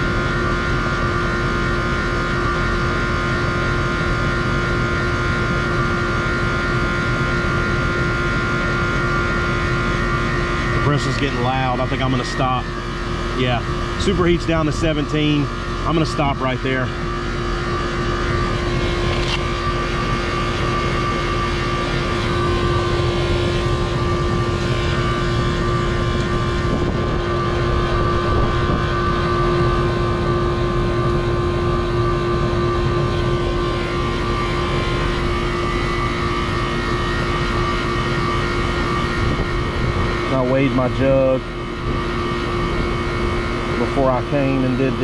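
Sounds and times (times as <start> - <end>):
air conditioner unit humming: 0.0 - 45.0.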